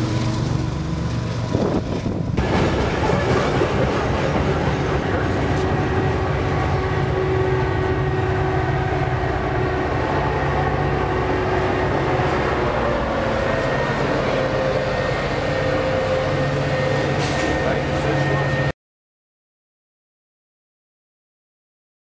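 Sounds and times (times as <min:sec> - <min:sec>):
train rolling past: 0:00.0 - 0:18.7
diesel locomotive humming: 0:00.0 - 0:18.8.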